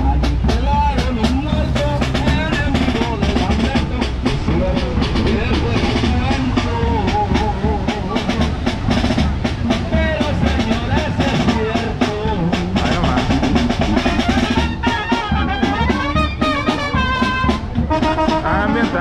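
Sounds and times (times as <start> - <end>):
steady drum beat: 0.0 - 19.0
tuba and brass playing: 0.0 - 19.0.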